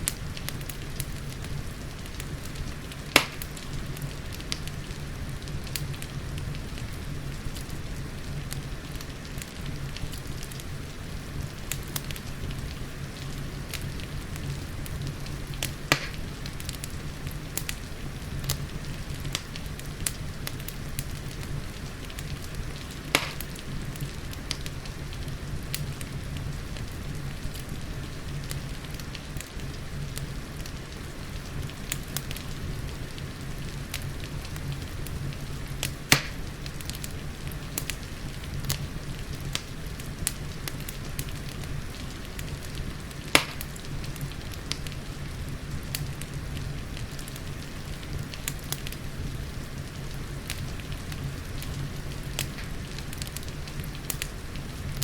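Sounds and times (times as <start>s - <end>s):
loud fire pops: 0.0s - 55.0s
rain hissing: 0.0s - 55.0s
wood fire crackling: 0.0s - 55.0s.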